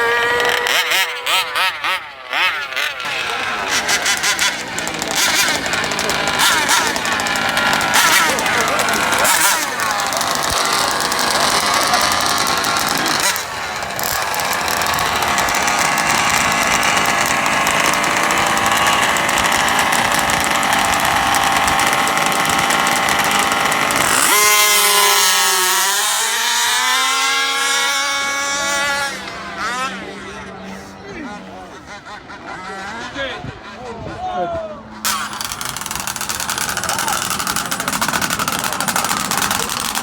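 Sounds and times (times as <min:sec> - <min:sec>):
engine revving: 0:00.0 - 0:34.0, 0:34.8 - 0:40.0
small two-stroke engines buzzing: 0:00.0 - 0:40.0.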